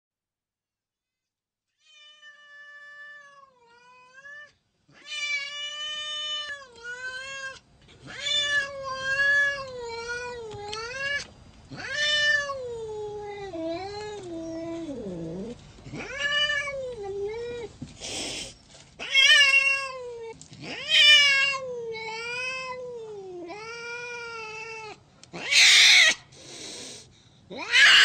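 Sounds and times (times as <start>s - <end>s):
cat yowling: 1.9s - 17.7s, 19.0s - 26.3s, 27.5s - 28.0s.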